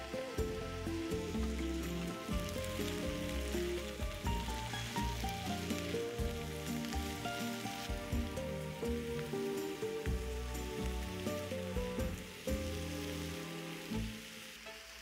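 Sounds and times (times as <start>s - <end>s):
food sizzling in a pan: 0.0s - 15.0s
instrumental background music: 0.0s - 15.0s.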